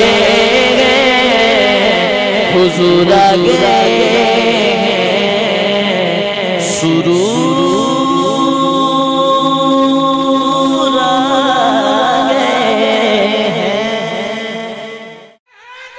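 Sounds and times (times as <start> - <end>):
chanted vocal backing: 0.0 - 15.9
man singing: 0.0 - 15.9.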